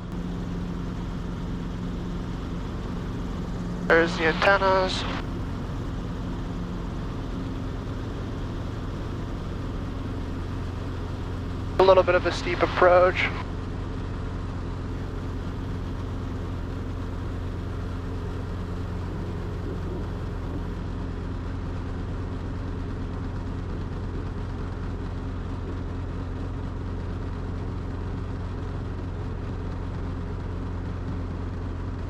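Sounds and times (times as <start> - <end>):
helicopter rotor drone: 0.0 - 32.0.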